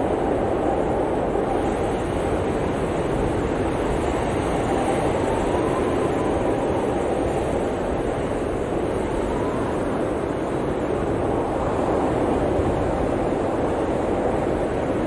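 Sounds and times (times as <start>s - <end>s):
blizzard wind roaring: 0.0s - 15.0s.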